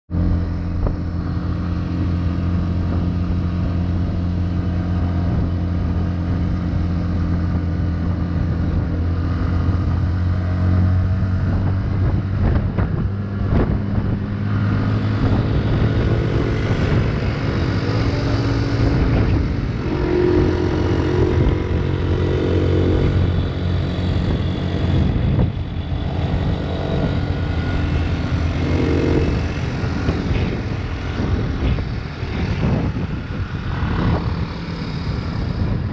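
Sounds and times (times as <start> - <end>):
motorcycle engine running: 0.1 - 35.9.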